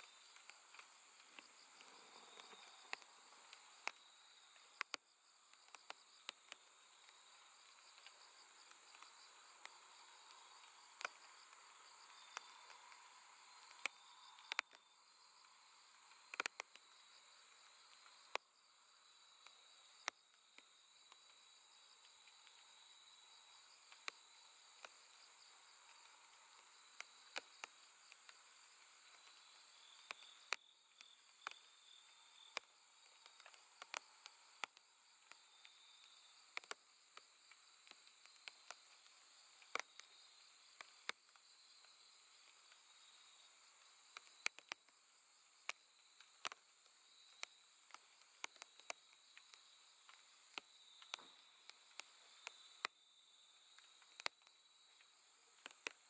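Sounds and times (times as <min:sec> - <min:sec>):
crickets trilling: 0:00.0 - 0:56.0
pulsing insect chirp: 0:00.0 - 0:56.0.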